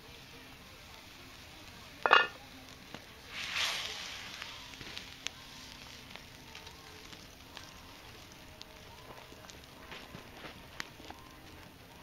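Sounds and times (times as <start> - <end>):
food sizzling in a skillet: 0.0 - 12.0
wood fire crackling: 0.0 - 12.0.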